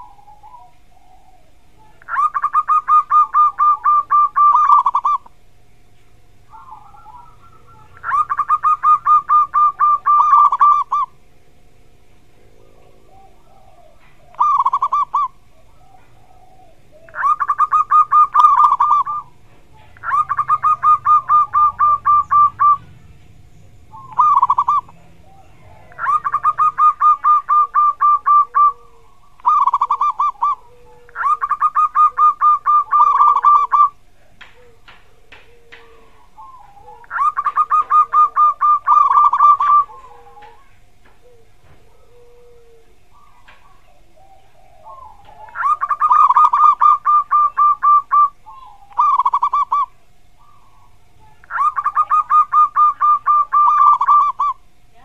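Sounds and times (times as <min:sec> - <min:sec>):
dove cooing: 0:00.0 - 0:05.5, 0:06.3 - 0:55.0.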